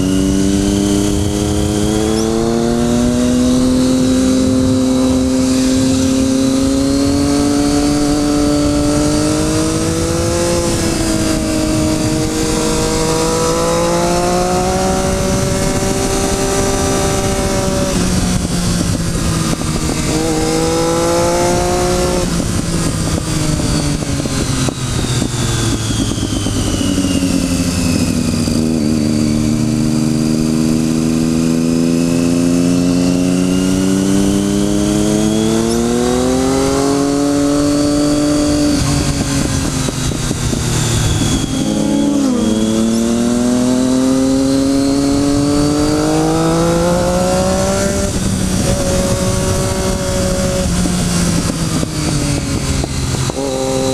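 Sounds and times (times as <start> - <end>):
motorcycle engine accelerating: 0.0 - 53.9
steady rushing noise: 0.0 - 53.9.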